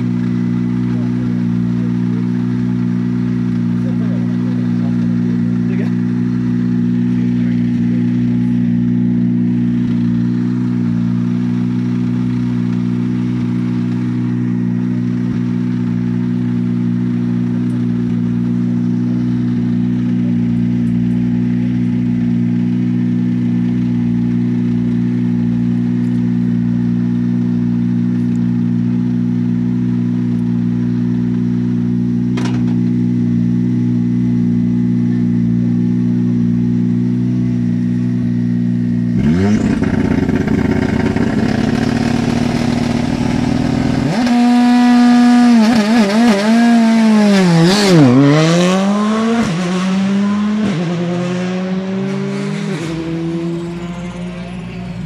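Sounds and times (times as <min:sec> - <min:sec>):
rally car engine idling: 0:00.0 - 0:44.3, 0:52.6 - 0:55.0.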